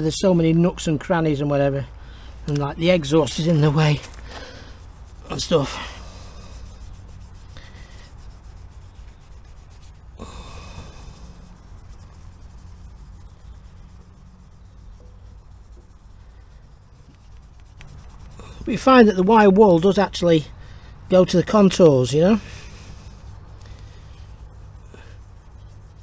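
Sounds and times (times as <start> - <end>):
wire wool scrubbing metal: 2.5 - 20.3, 21.1 - 26.0.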